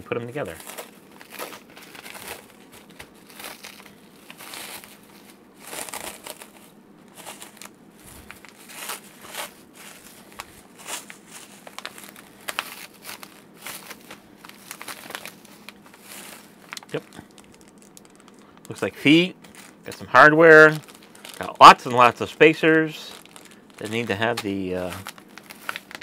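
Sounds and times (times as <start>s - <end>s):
plastic wrapping crinkling: 0.2s - 26.0s.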